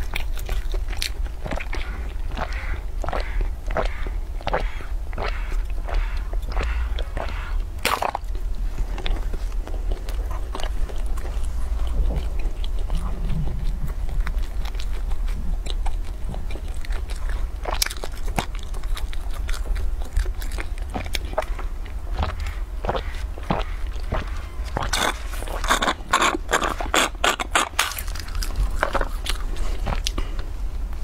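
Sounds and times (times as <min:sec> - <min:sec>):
person chewing: 0:00.0 - 0:31.0.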